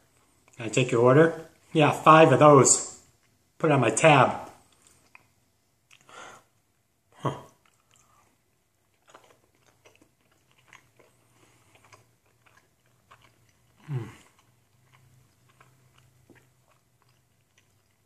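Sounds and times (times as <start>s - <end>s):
man chewing food: 0.0s - 0.7s, 3.0s - 3.6s, 4.4s - 18.0s.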